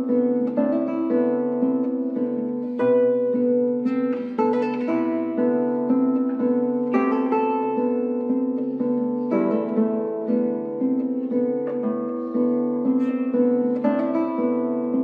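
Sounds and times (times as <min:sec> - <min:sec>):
classical guitar fingerpicking: 0:00.0 - 0:15.0.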